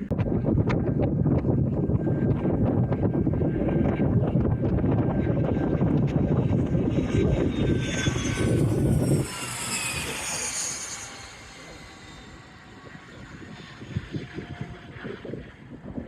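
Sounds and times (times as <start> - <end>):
jet airplane engine whine: 0.0 - 16.0
wind rumble on microphone: 0.0 - 16.0.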